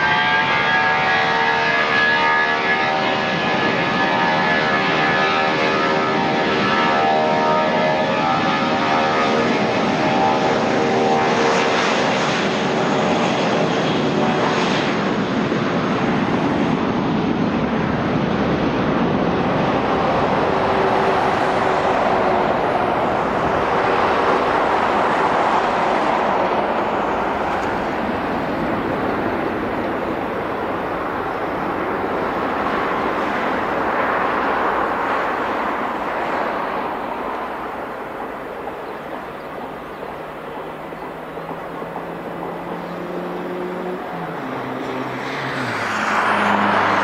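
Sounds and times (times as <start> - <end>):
jet engines roaring: 0.0 - 47.0
multi-tone engine whine: 0.0 - 47.0.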